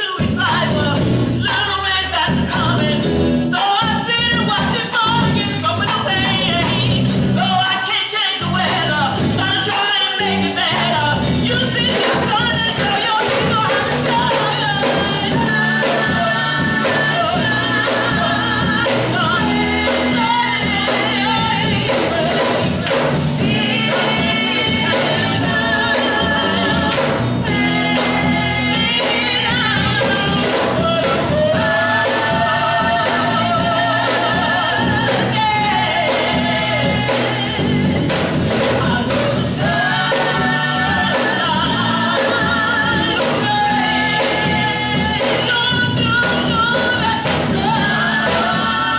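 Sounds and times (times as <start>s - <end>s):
band accompaniment: 0.0s - 48.9s
voices singing gospel: 0.0s - 48.9s.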